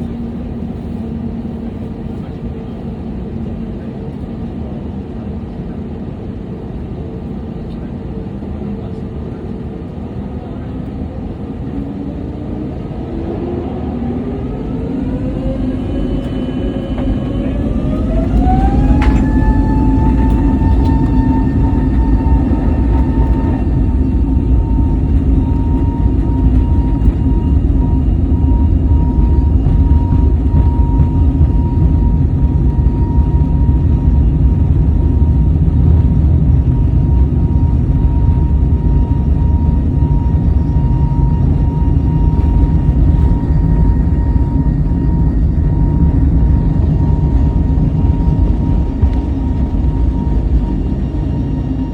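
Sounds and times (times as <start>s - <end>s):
aircraft rolling rumble: 0.0s - 51.9s
jet engines spooling up: 0.0s - 51.9s.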